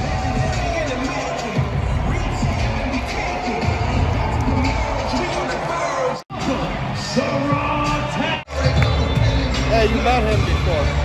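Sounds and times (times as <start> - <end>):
large crowd noise: 0.0 - 11.0
music over sound system: 0.0 - 11.0.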